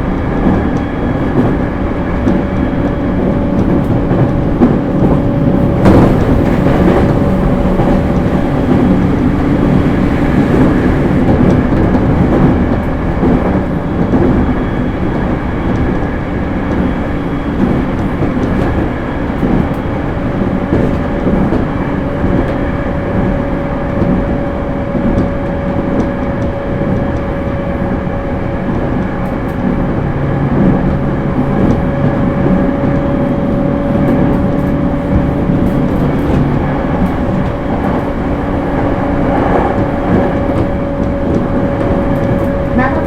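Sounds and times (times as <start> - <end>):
electric train hum: 0.0 - 43.0
train wheels rumbling on rails: 0.0 - 43.0.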